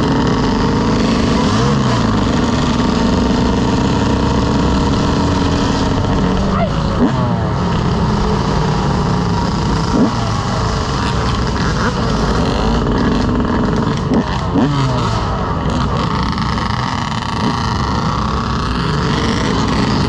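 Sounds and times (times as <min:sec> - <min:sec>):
dirt bike engines running: 0:00.0 - 0:20.0
engine throttle blips: 0:00.0 - 0:20.0.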